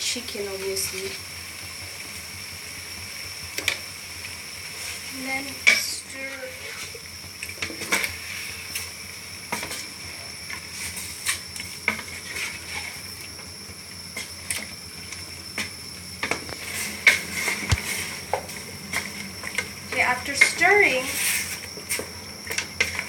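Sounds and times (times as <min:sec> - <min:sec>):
hot pan hissing: 0:00.0 - 0:23.0.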